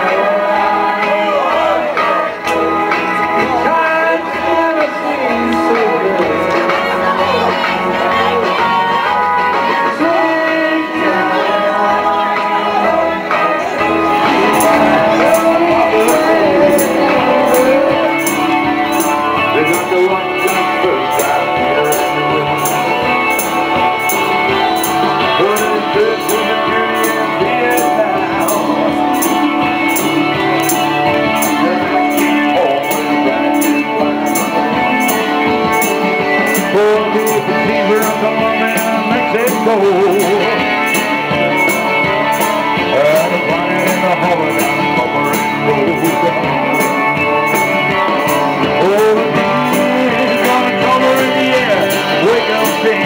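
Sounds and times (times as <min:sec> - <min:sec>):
live band music: 0:00.0 - 0:53.0
person singing: 0:00.0 - 0:53.0.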